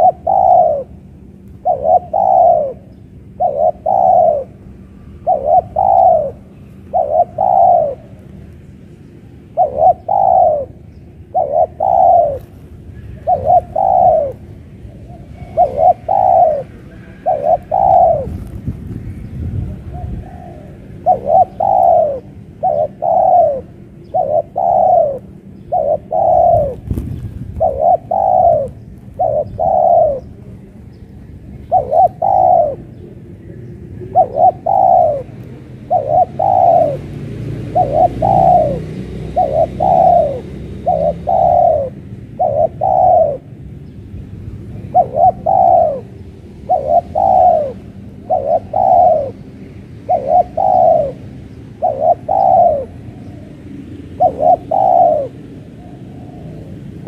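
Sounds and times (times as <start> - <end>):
dove cooing: 0.0 - 43.7, 44.5 - 57.0.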